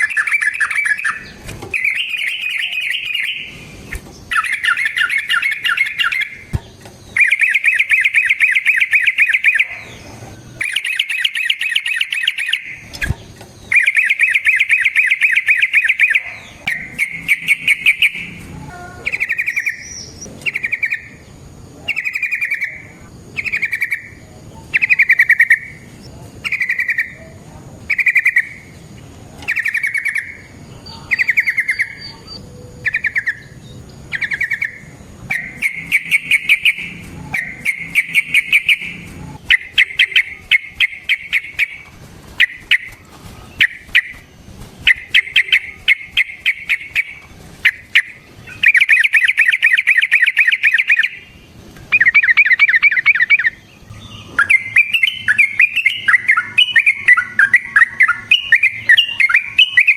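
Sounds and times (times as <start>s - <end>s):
bird singing bubbling calls: 0.0s - 59.9s.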